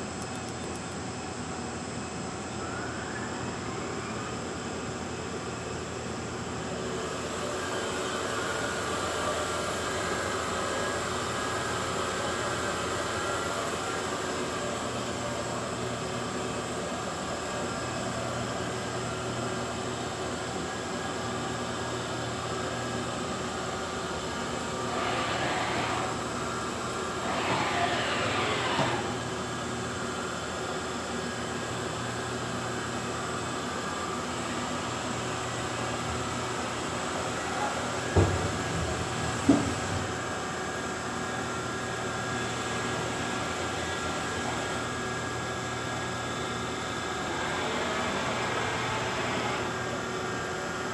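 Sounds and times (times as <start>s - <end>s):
machining center humming: 0.0s - 50.9s.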